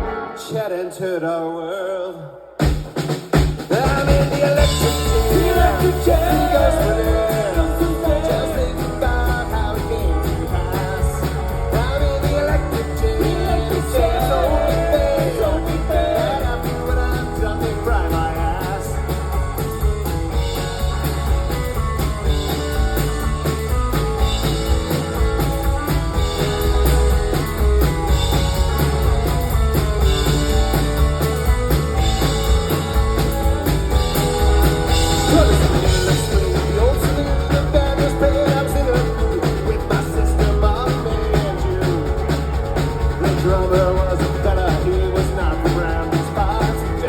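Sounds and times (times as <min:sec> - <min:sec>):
rock band playing live: 0:00.0 - 0:00.7, 0:02.6 - 0:47.0
drum kit beat: 0:02.6 - 0:47.0.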